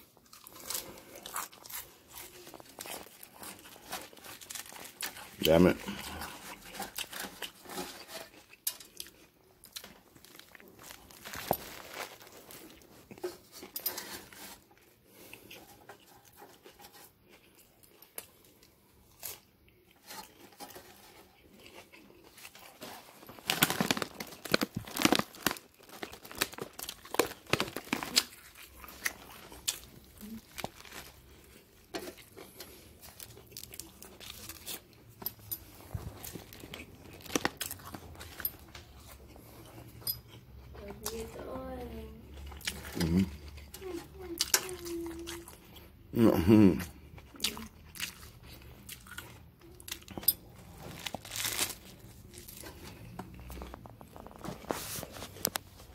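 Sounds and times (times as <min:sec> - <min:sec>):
crinkling and rustling handling: 0:00.0 - 0:46.0, 0:47.2 - 0:55.9.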